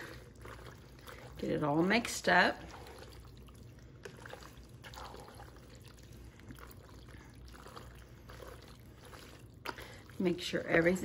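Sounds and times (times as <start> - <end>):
spoon stirring pasta squishing: 0.0 - 11.0.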